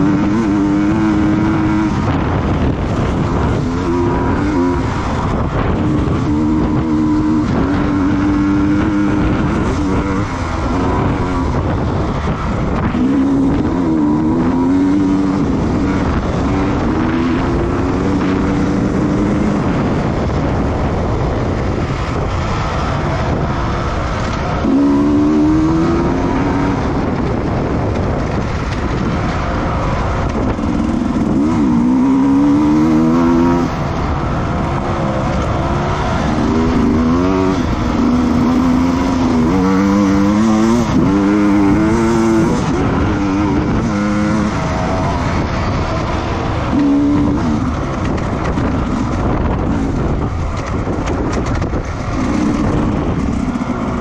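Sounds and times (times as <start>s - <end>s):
racing motorcycle engine: 0.0s - 54.0s
wind and road noise: 0.0s - 54.0s.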